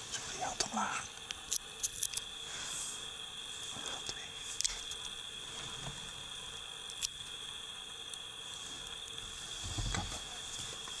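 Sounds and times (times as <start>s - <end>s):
background hiss: 0.0s - 11.0s
high-pitched whine: 0.0s - 11.0s.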